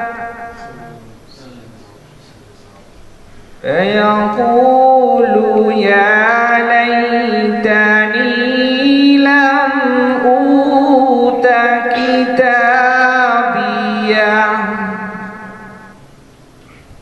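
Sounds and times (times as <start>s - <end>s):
man chanting melodically: 0.0s - 3.0s, 3.6s - 16.0s.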